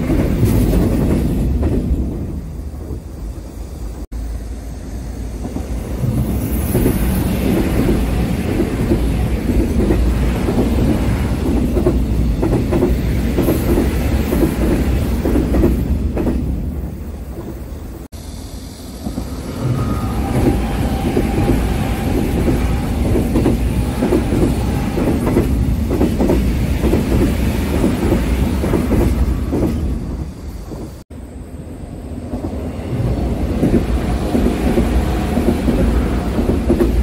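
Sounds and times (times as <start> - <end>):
train rolling noise: 0.0 - 37.0.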